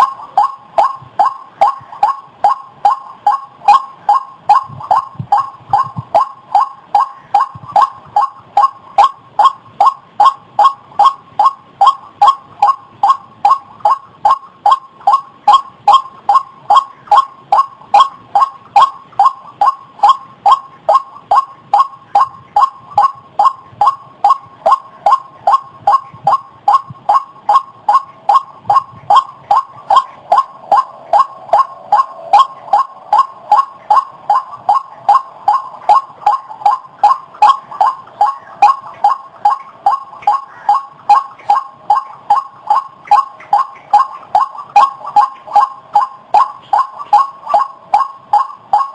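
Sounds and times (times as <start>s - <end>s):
waterhen croaking call: 0.0s - 48.9s.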